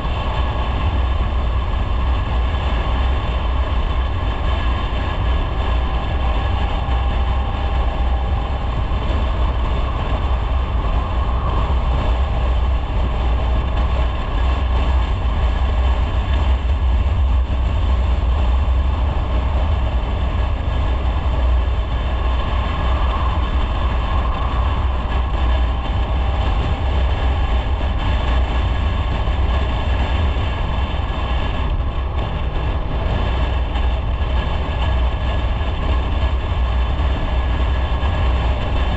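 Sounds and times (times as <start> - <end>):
motorcycle engine and road noise: 0.0 - 38.9
wind on microphone: 0.0 - 38.9.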